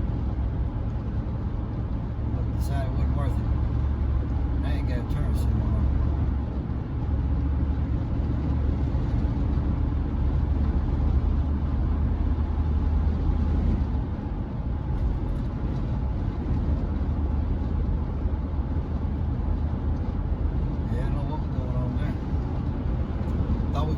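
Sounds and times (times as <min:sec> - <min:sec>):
pickup engine and tyre rumble: 0:00.0 - 0:23.9.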